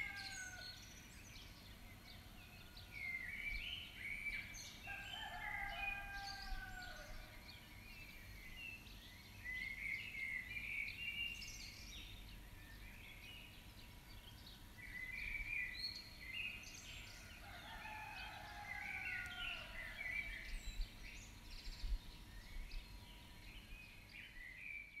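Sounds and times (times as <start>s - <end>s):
birds chirping and singing: 0.0s - 25.0s.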